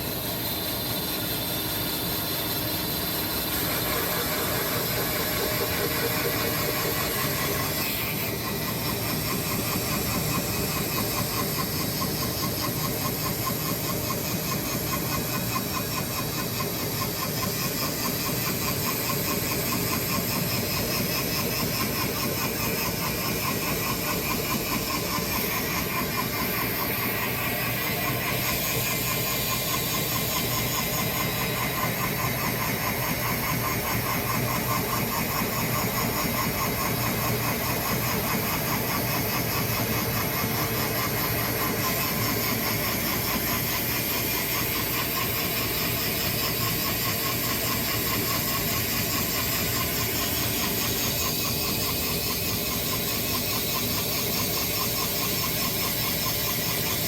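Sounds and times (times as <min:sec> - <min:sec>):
sawmill engine and blade: 0:00.0 - 0:57.0.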